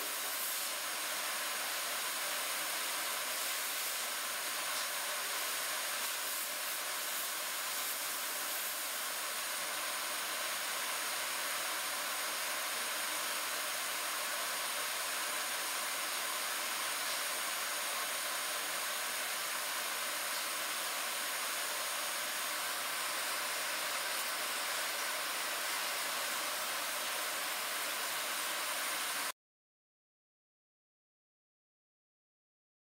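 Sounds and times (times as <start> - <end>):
shop machinery hiss: 0.0 - 29.3.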